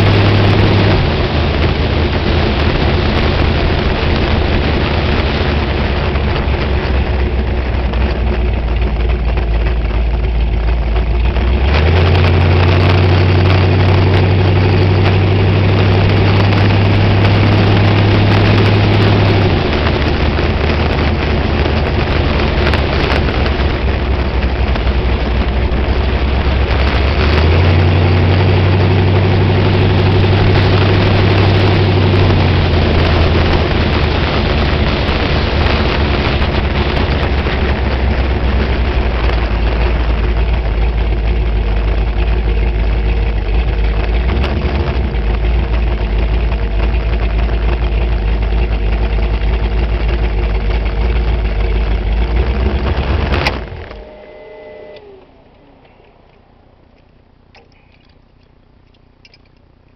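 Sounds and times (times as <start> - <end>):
race car engine running: 0.0 - 59.9.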